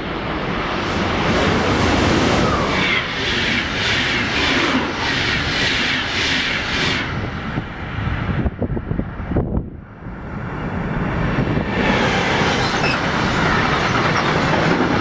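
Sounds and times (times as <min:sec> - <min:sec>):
passenger train passing: 0:00.0 - 0:15.0
wheels rushing on rail: 0:00.0 - 0:15.0.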